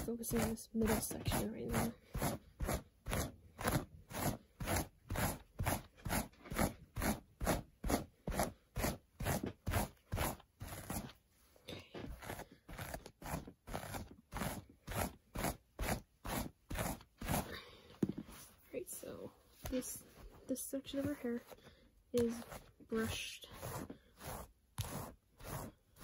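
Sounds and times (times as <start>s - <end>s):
hairbrush raking through hair: 0.0s - 26.0s.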